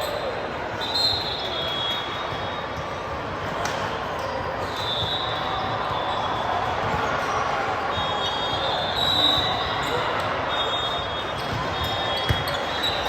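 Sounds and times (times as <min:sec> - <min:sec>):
voices and play in sports hall: 0:00.0 - 0:13.0.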